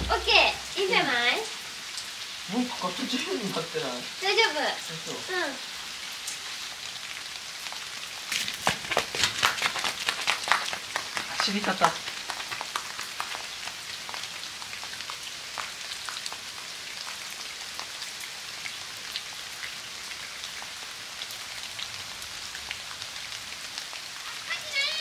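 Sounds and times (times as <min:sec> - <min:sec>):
close raindrops ticking: 0:00.0 - 0:25.0
steady rain falling: 0:00.0 - 0:25.0.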